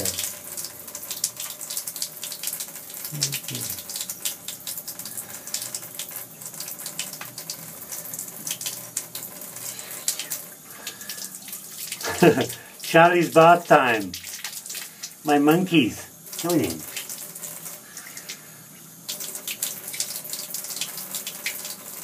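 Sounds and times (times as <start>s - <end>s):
shower water splashing in bathtub: 0.0s - 22.0s.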